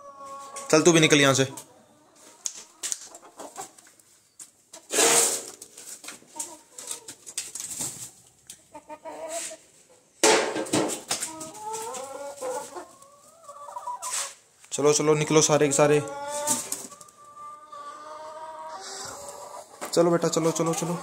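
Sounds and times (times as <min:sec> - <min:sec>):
hens clucking and squawking: 0:00.0 - 0:21.0.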